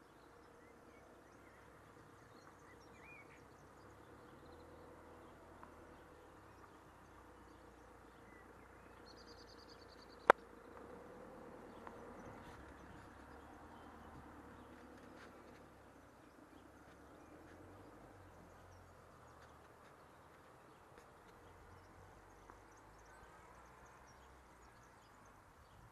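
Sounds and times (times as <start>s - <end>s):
bird chirping: 0.0s - 25.9s.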